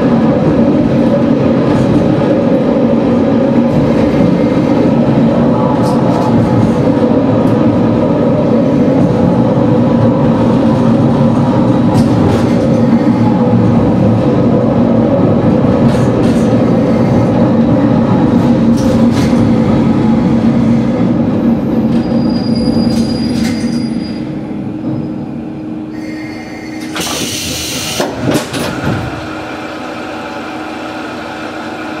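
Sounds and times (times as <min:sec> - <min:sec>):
train wheels and engine rumbling: 0:00.0 - 0:32.0.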